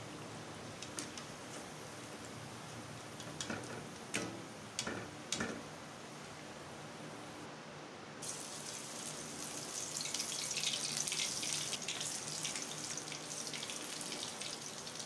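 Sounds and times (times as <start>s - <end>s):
oil sizzling and crackling: 0.0s - 5.8s, 8.2s - 15.0s.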